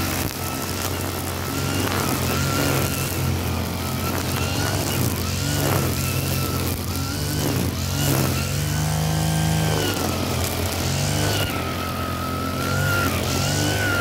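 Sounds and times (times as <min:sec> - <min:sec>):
brush cutter engine whining: 0:00.0 - 0:14.0
cutting head hissing through grass: 0:00.0 - 0:14.0.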